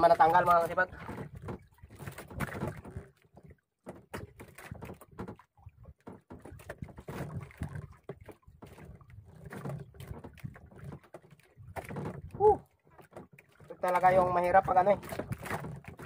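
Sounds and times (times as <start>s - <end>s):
fishing line knocking and rubbing on hull: 0.0s - 16.0s.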